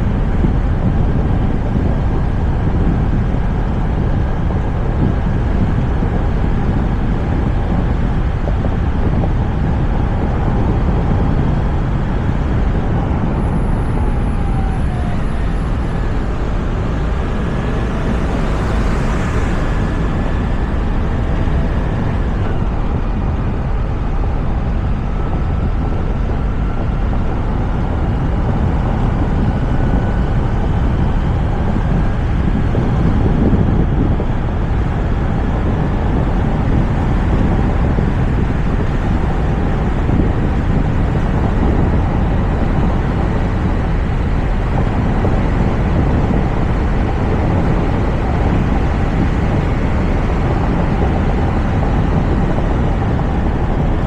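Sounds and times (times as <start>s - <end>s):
wind rushing on microphone: 0.0s - 54.0s
tyre and road noise: 0.1s - 54.0s.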